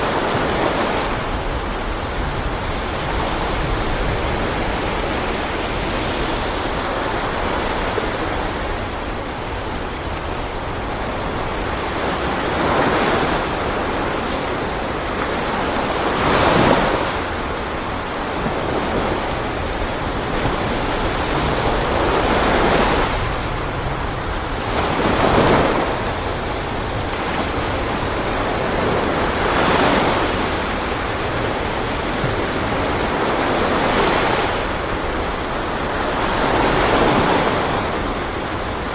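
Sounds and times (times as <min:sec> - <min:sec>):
waves washing against boat hull: 0:00.0 - 0:38.9.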